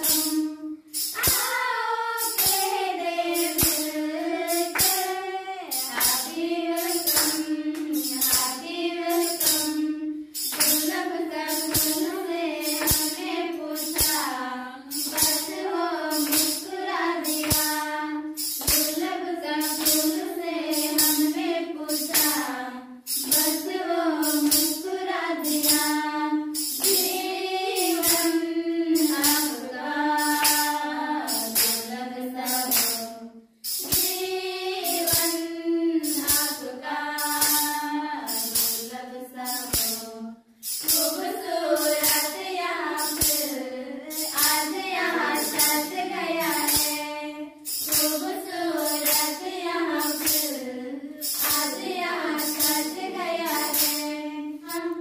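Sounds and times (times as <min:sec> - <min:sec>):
group of women singing: 0:00.0 - 0:55.0
sharp percussive strokes: 0:00.0 - 0:55.0.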